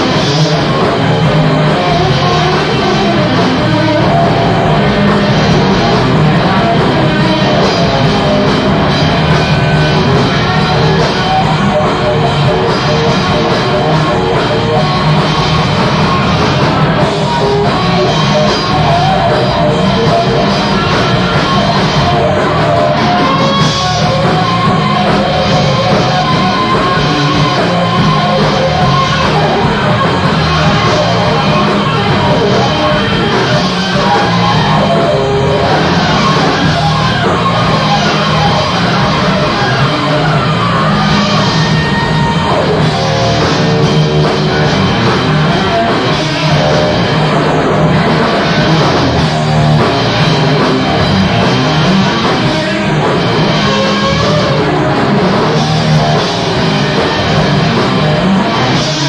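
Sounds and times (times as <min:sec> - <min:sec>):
live rock fusion band playing: 0:00.0 - 0:59.0.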